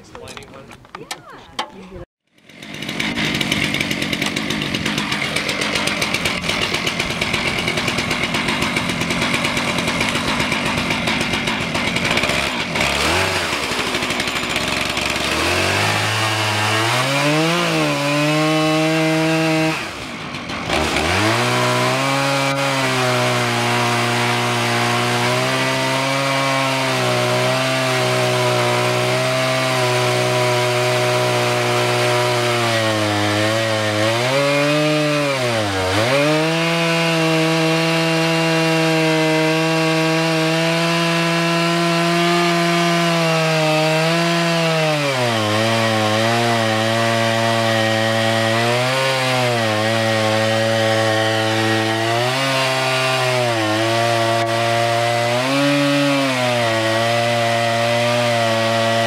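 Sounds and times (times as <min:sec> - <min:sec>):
chainsaw cutting log: 0:00.2 - 0:59.0.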